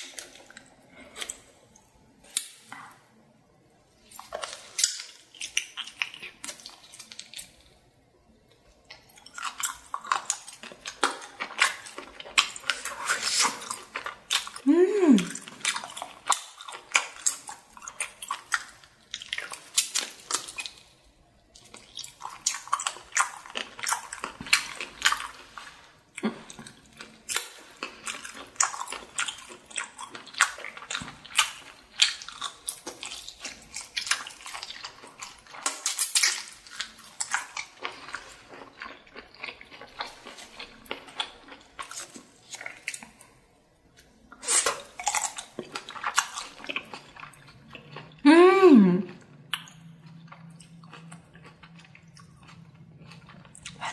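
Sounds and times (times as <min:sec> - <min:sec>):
close chewing: 0:00.0 - 0:03.0, 0:03.9 - 0:07.9, 0:08.5 - 0:48.3, 0:49.0 - 0:53.9.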